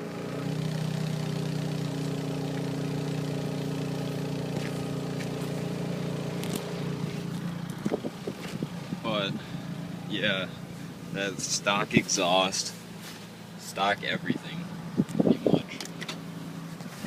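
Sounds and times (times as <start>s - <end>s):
car exhaust at steady revs: 0.0s - 17.0s.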